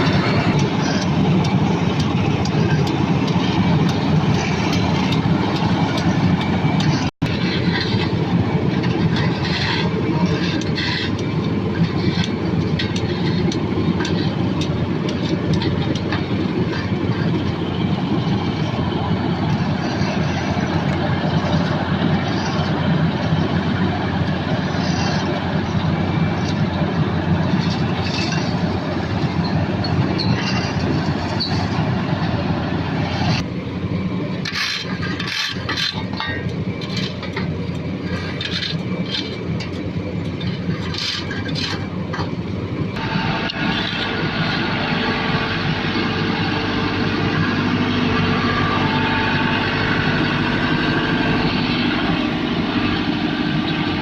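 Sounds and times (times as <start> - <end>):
road-paving machinery engines: 0.0 - 54.0.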